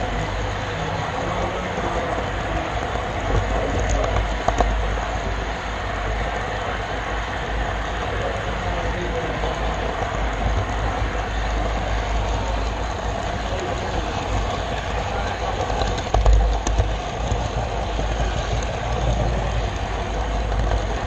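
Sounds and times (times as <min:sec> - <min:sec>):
model train wheels rumbling on rail: 0:00.0 - 0:21.0.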